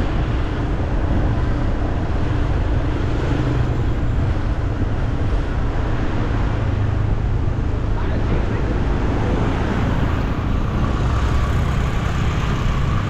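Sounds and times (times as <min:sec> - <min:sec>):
heavy low hum: 0:00.0 - 0:13.0
street traffic rumble: 0:00.0 - 0:13.0.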